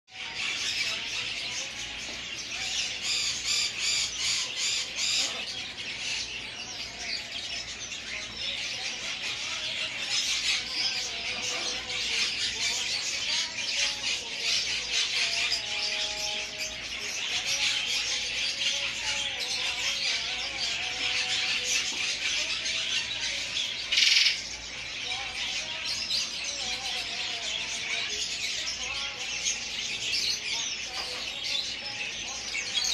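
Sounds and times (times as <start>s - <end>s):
small birds chirping: 0.1s - 32.9s.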